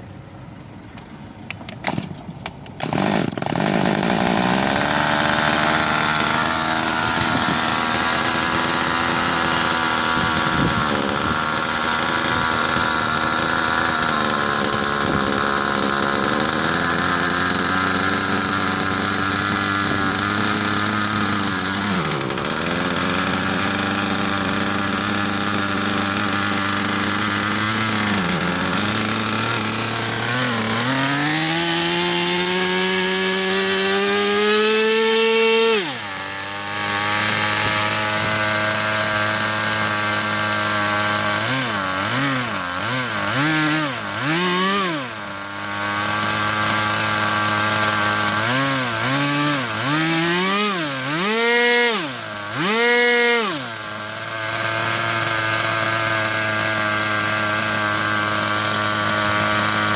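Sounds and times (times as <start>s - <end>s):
small two-stroke engine revving: 0.0s - 59.9s.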